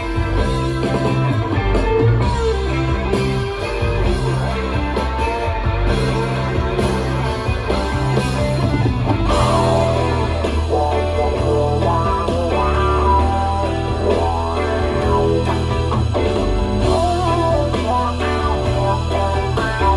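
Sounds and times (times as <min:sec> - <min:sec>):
bass guitar: 0:00.0 - 0:19.9
drums: 0:00.0 - 0:19.9
electric guitar: 0:00.0 - 0:19.9.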